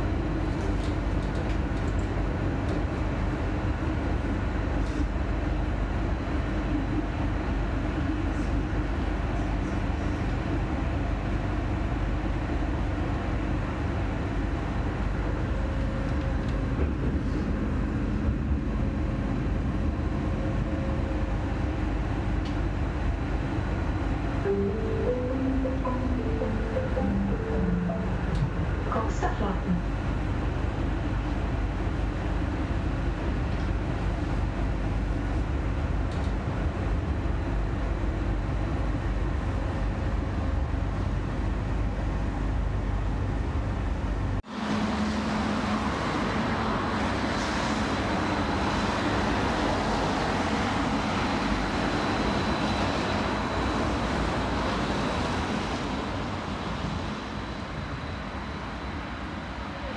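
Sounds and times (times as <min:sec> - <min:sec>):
tram interior rumble: 0:00.0 - 0:59.9
tram passing platform with whine: 0:00.0 - 0:59.9.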